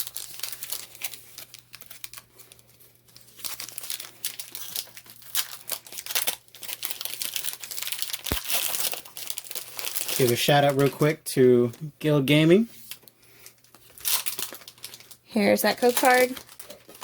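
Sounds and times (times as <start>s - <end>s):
foil wrapper crinkling and tearing: 0.0s - 11.8s, 12.8s - 17.0s.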